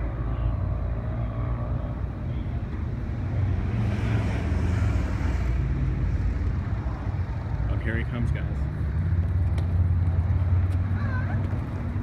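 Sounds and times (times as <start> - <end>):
motorcycle passing: 0.0 - 12.0
vehicle engines rumbling: 0.0 - 12.0.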